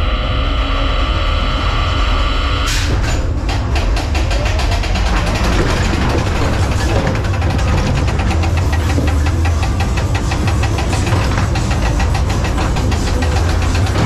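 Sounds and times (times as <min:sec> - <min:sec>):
ride car clattering on track: 0:02.7 - 0:14.0.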